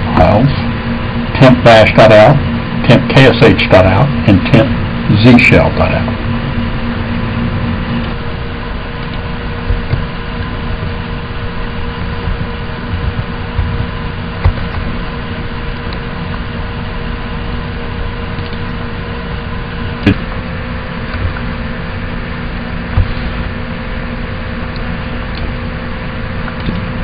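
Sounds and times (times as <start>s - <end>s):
electrical hum and hiss: 0.0s - 27.0s.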